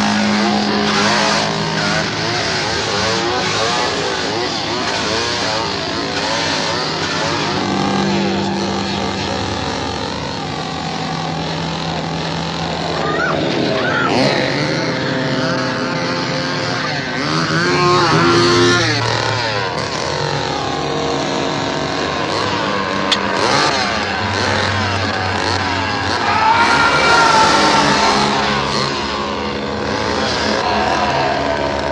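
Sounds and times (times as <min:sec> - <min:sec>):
chainsaw engine revving: 0:00.0 - 0:31.9.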